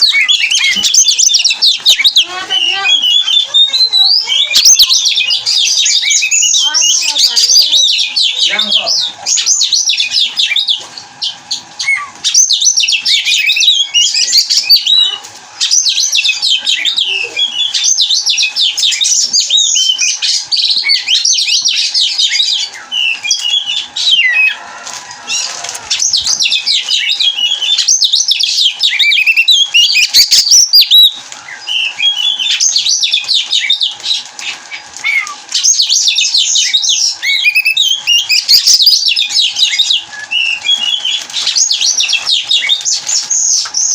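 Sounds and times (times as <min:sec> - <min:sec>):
bird singing rapid song: 0:00.0 - 0:24.6, 0:25.3 - 0:43.9.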